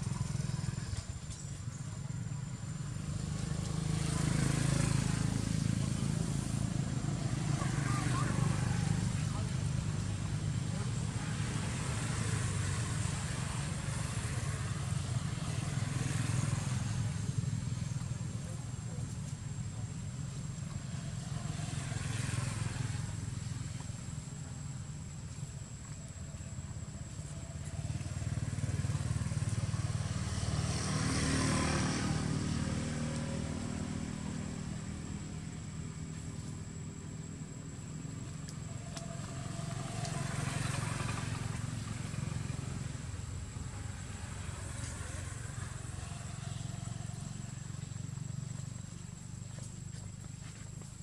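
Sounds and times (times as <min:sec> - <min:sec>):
engine droning: 0:00.0 - 0:51.0
faint outdoor hiss: 0:00.0 - 0:51.0.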